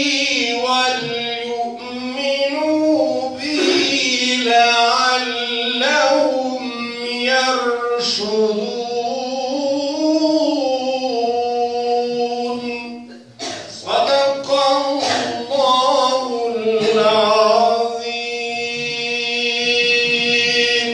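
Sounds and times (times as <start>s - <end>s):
man chanting melodically: 0.0s - 20.9s.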